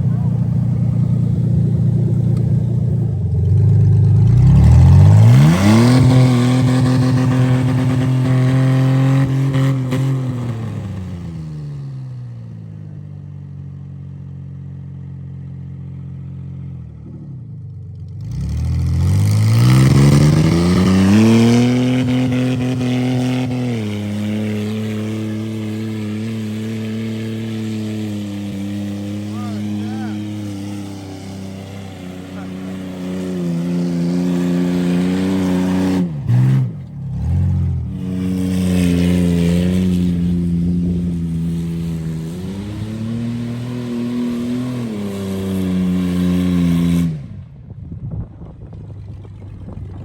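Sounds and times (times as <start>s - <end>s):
car engine revving: 0.0s - 47.5s.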